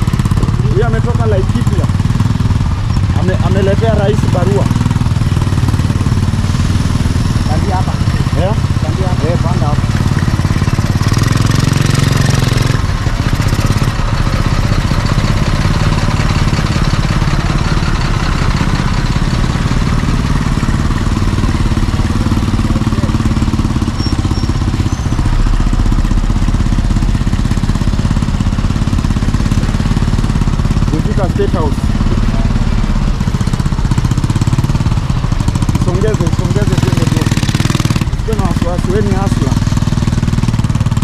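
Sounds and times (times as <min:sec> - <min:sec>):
motorbike engine running: 0:00.0 - 0:41.0.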